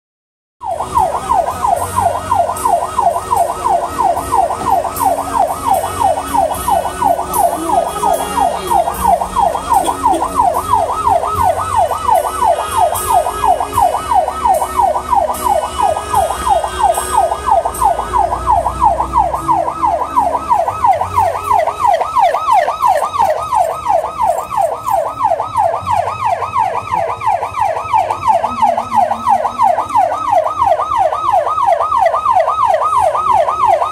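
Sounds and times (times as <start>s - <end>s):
electronic siren yelping: 0.6s - 33.9s.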